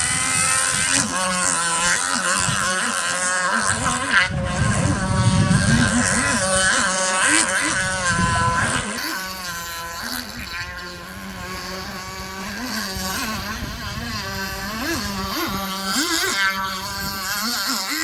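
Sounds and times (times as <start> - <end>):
small engine running hard: 0.0 - 18.0.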